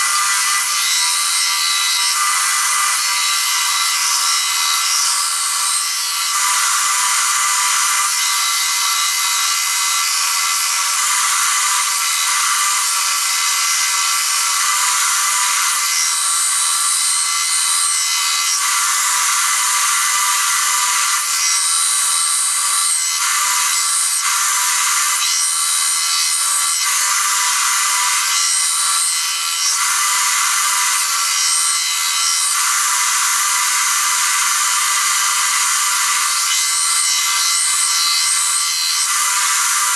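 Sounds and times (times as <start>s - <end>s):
belt grinder whine: 0.0s - 39.9s.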